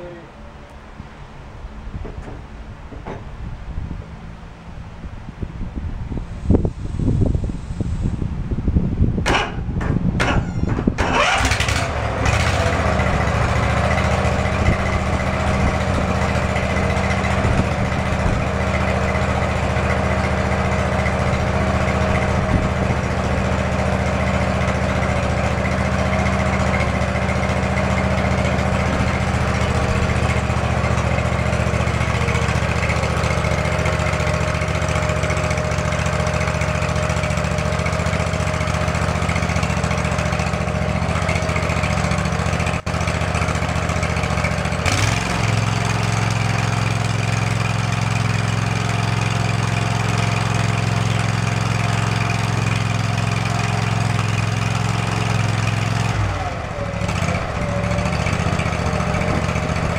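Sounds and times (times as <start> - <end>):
lawn mower engine starting: 9.2 - 59.9.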